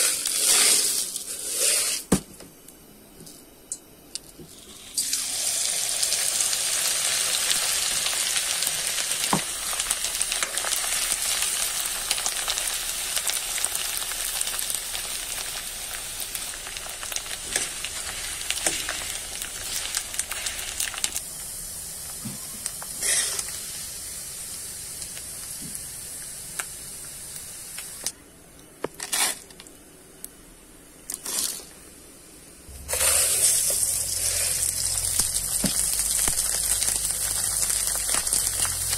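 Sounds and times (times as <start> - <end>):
rice sizzling in oil: 0.0 - 2.1, 4.5 - 28.2, 29.0 - 29.5, 31.1 - 31.9, 32.7 - 38.9.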